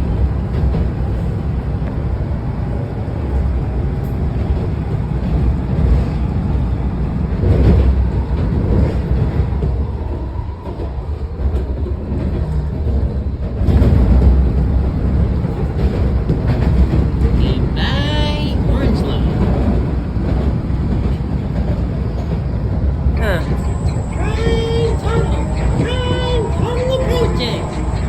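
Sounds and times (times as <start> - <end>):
train rumbling along track: 0.0 - 28.0.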